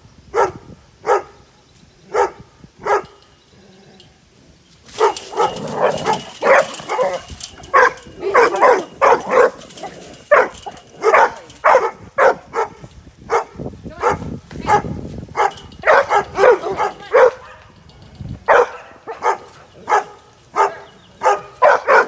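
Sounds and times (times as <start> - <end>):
dogs barking: 0.4 - 1.4, 2.1 - 3.2, 4.9 - 17.8, 18.4 - 22.0.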